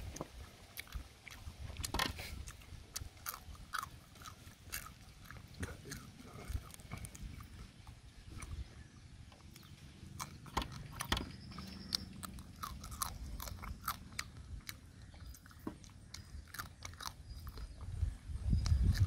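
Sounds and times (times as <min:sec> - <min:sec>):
person chewing crab: 0:00.0 - 0:08.8, 0:09.4 - 0:19.0.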